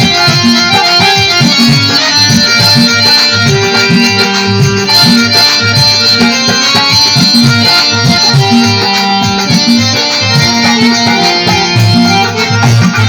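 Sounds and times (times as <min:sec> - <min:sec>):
reedy keyboard melody: 0:00.0 - 0:13.0.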